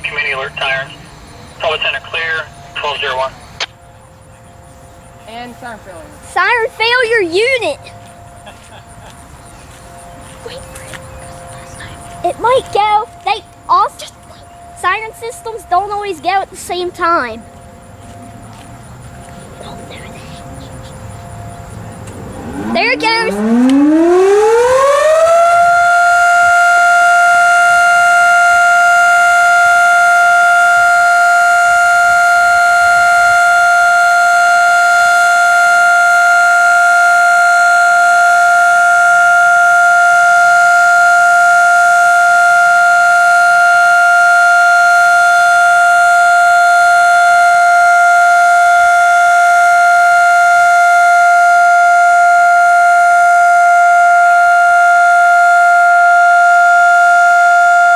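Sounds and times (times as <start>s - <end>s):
mechanical siren wailing: 0.0s - 57.9s.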